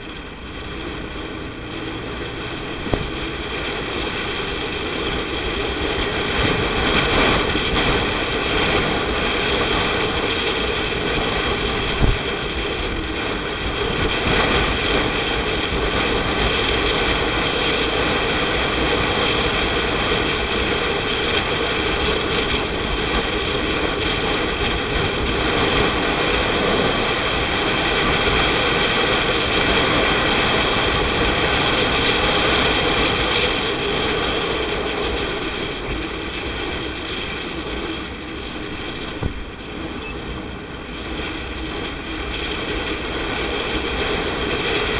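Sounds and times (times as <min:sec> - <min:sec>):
motorcycle engine and wind roar: 0:00.0 - 0:44.9.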